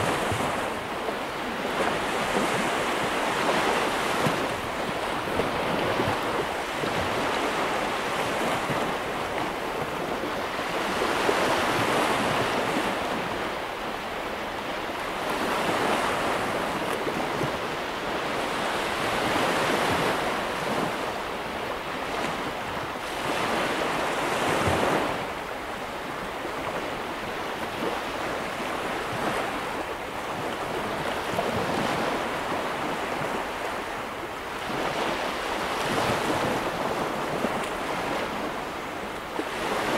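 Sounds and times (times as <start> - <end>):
surf washing up a sandy beach: 0.0 - 39.9.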